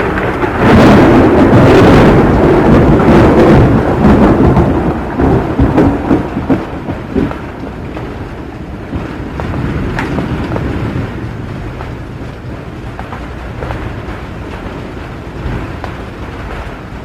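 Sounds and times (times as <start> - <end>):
low rumble of thunder: 0.0 - 17.0
rain: 0.0 - 17.0.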